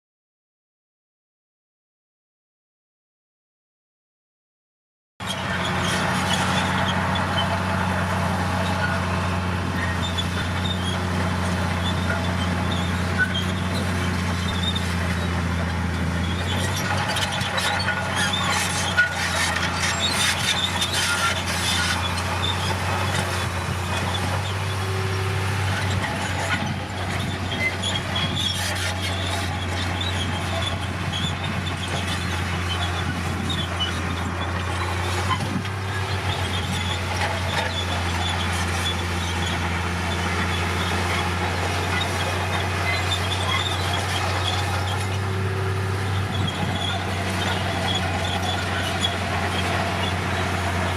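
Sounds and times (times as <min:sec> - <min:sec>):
bulldozer diesel engine: 0:05.2 - 0:50.9
steel tracks squealing and clattering: 0:05.2 - 0:50.9.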